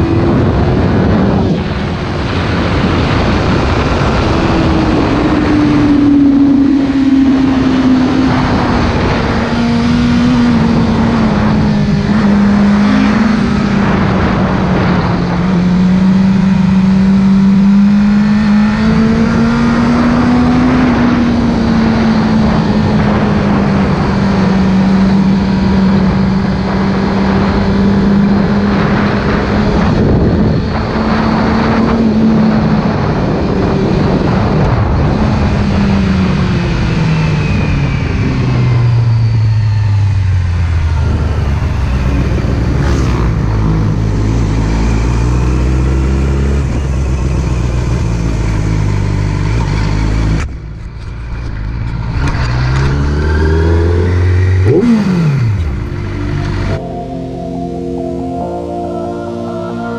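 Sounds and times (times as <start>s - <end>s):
wind rush on microphone: 0.0s - 56.8s
motorcycle engine: 0.0s - 59.9s.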